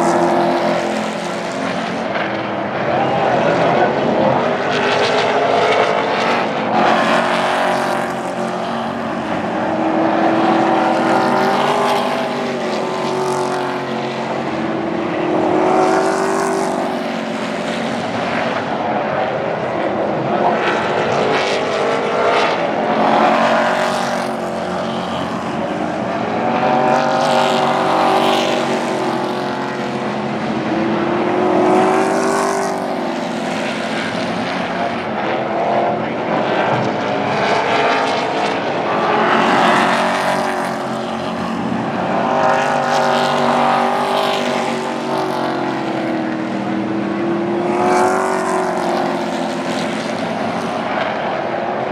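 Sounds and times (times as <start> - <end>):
race truck engines passing: 0.0 - 51.9.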